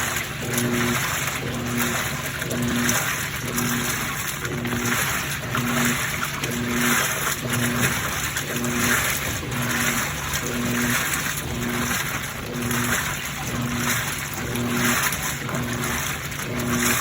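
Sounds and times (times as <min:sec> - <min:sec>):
short motor hum: 0:00.0 - 0:17.0
washing machine water sloshing: 0:00.0 - 0:17.0.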